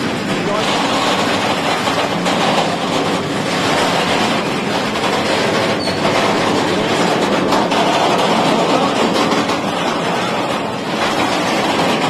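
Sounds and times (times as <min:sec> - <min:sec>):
steel train wheels on rails: 0:00.0 - 0:12.0.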